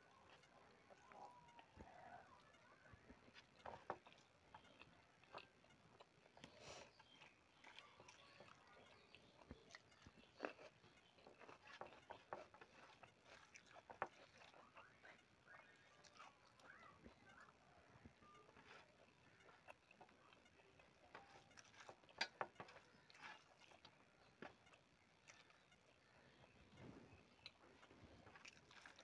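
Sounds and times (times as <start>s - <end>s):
person chewing: 0.0s - 29.0s
eating clicks and smacks: 3.3s - 26.3s, 27.2s - 29.0s.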